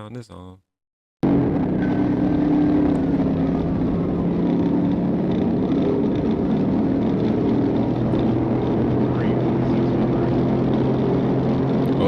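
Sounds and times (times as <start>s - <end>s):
faint falling whine: 1.2s - 11.0s
road noise: 1.2s - 12.0s
vehicle engine hum: 1.2s - 12.0s.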